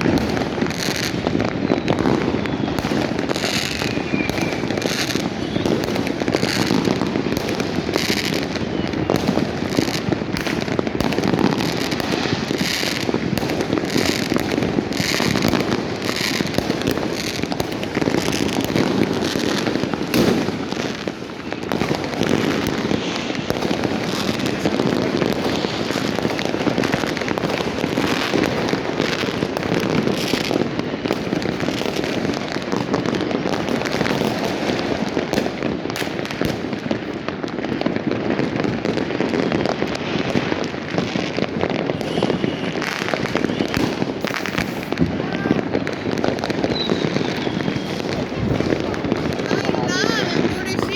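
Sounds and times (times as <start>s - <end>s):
fireworks and firecrackers crackling: 0.0s - 50.9s.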